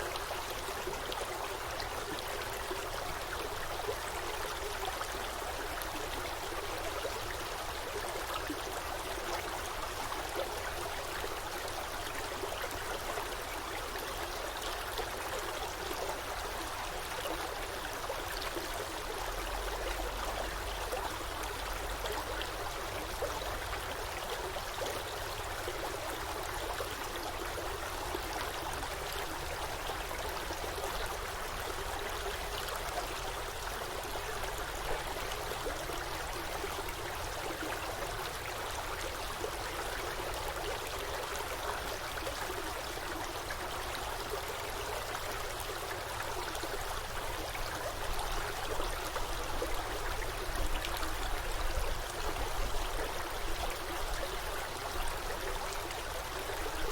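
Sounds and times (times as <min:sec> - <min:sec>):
stream water rushing and babbling: 0:00.0 - 0:56.9.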